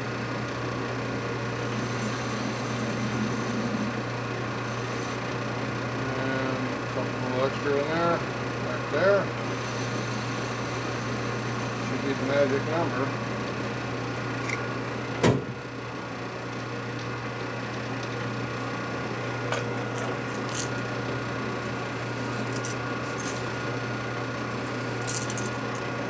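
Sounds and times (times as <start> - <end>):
workshop machinery humming: 0.0 - 26.0.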